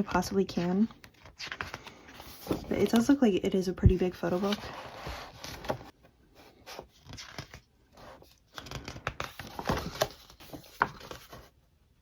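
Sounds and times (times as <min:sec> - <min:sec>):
paper and cardboard rustling: 0:00.0 - 0:11.6.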